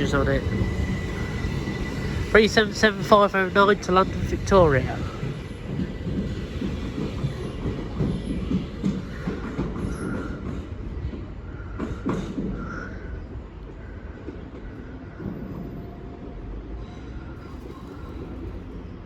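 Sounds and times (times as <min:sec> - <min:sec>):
train wheels rumbling over rail joints: 0:00.0 - 0:19.0.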